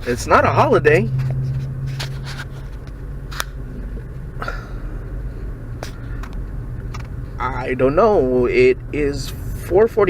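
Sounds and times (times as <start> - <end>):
engine and road noise hum: 0.0 - 10.0.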